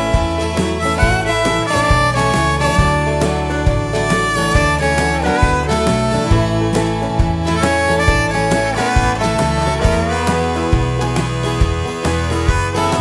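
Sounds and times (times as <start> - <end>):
fiddle: 0.0 - 13.0
guitar: 0.0 - 13.0
harmonica: 0.0 - 13.0
steady beat: 0.0 - 13.0.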